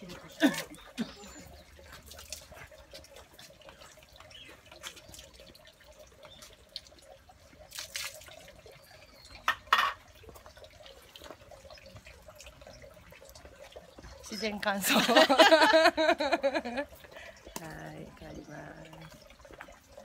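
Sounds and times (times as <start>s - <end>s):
water splashing into stone basin: 0.0s - 20.0s.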